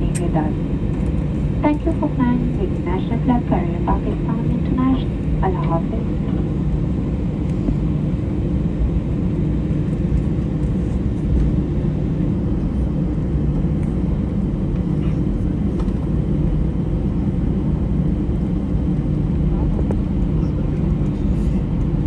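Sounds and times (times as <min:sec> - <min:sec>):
jet engines idling: 0:00.0 - 0:22.0.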